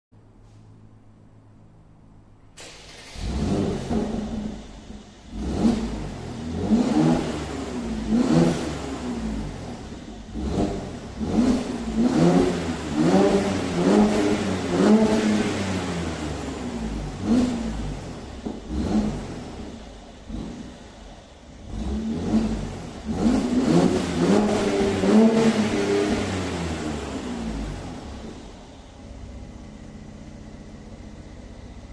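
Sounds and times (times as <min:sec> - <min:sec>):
car engine revving: 0:02.6 - 0:31.9.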